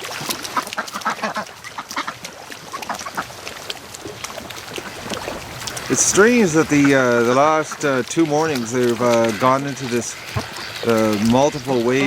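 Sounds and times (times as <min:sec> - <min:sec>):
ducks quacking: 0:00.4 - 0:12.0.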